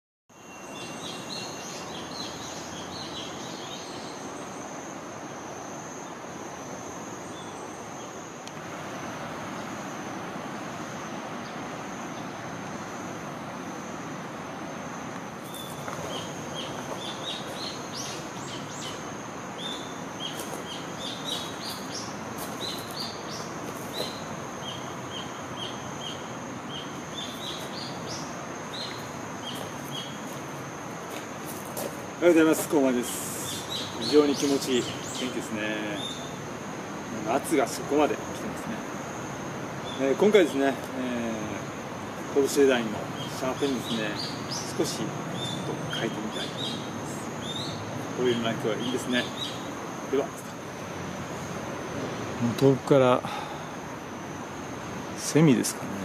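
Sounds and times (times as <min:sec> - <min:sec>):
small birds chirping: 0:00.3 - 0:13.2, 0:14.8 - 0:54.0
high-pitched insect drone: 0:00.3 - 0:56.0.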